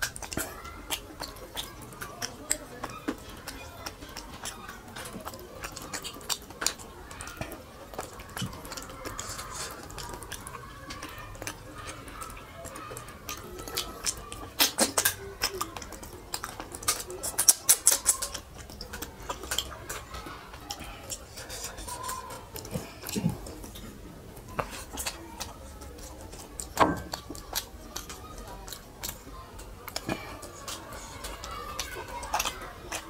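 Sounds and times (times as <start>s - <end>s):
wet smacking and chewing: 0.0s - 33.0s.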